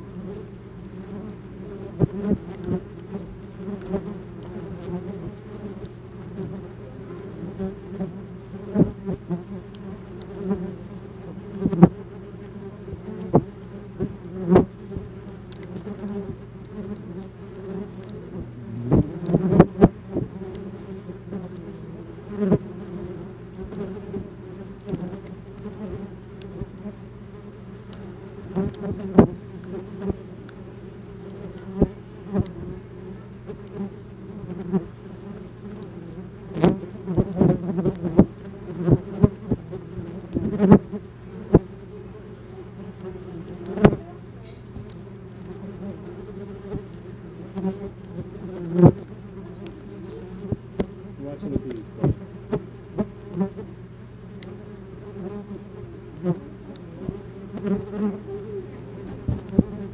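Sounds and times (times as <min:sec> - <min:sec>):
wasps buzzing: 0:00.0 - 0:59.9.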